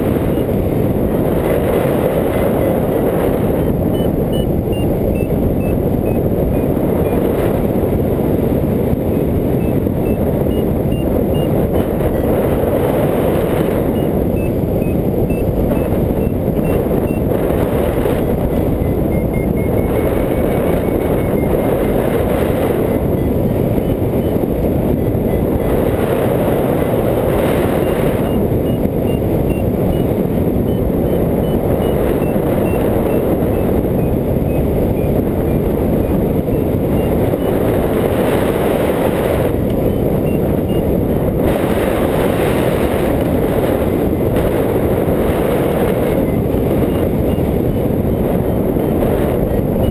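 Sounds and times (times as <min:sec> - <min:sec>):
variometer short beeps: 0:00.0 - 0:07.9, 0:09.0 - 0:49.9
wind rushing on microphone: 0:00.0 - 0:49.9.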